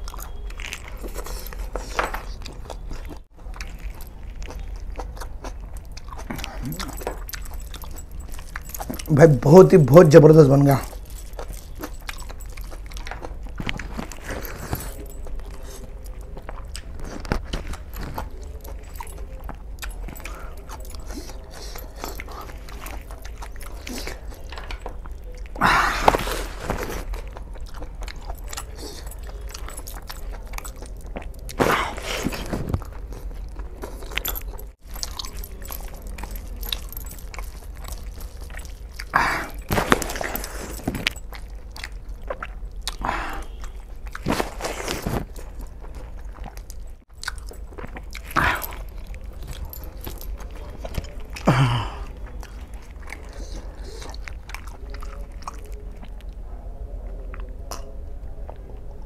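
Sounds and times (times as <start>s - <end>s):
man biting and chewing: 0.0s - 56.4s.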